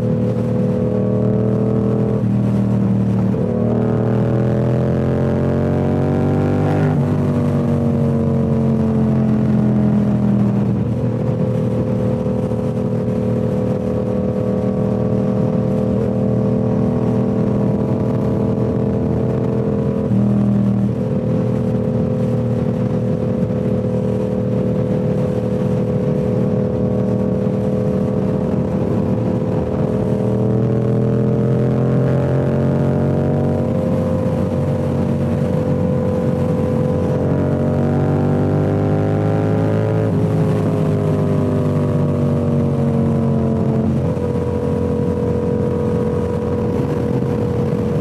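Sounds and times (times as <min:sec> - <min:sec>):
motorcycle engine while riding: 0:00.0 - 0:48.0.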